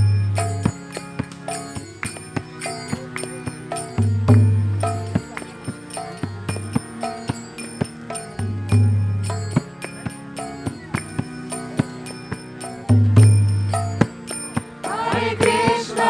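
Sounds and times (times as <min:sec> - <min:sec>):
hand cymbals striking: 0:00.0 - 0:16.0.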